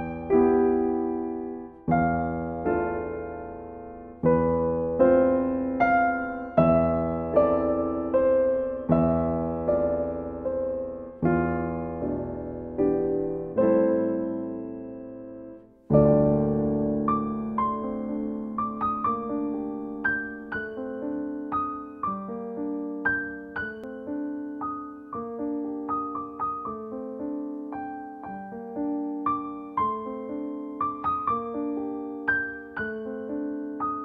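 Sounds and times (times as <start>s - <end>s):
piano low chords: 0.0s - 34.0s
piano melody: 0.0s - 34.0s.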